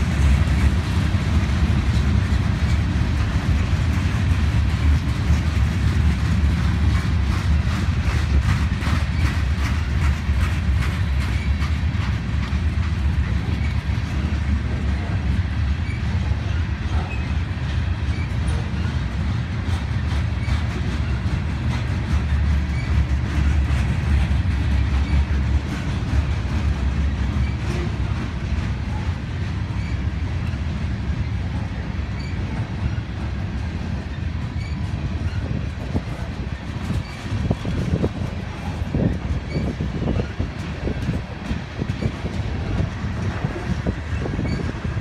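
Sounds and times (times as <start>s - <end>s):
freight train wheels rumbling: 0.0s - 45.0s
wheels clicking over rail joints: 0.0s - 45.0s.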